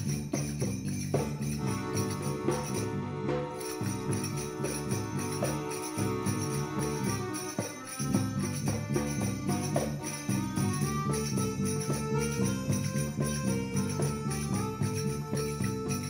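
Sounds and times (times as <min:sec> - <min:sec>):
bright metallic jingling: 0:00.0 - 0:16.0
darbuka drum strokes: 0:00.0 - 0:16.0
synth accordion melody: 0:01.3 - 0:16.0.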